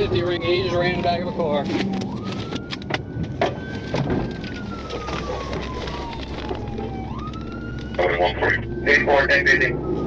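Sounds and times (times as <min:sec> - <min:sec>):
police siren wailing: 0:00.0 - 0:10.0
road and engine noise: 0:00.0 - 0:10.0.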